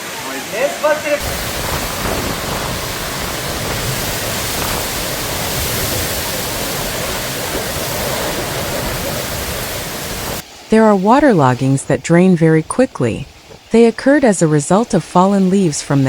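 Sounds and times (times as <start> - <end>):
heavy rain rushing: 0.0 - 16.0.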